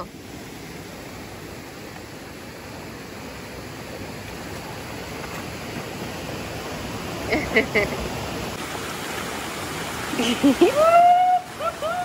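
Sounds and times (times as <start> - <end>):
water rushing over small waterfall: 0.0 - 12.0.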